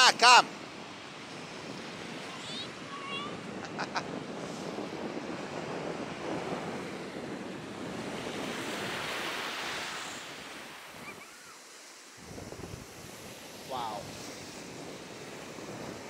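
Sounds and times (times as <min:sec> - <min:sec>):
small waves breaking on shore: 0:00.0 - 0:16.0
wind buffeting microphone: 0:00.4 - 0:11.2, 0:12.2 - 0:16.0.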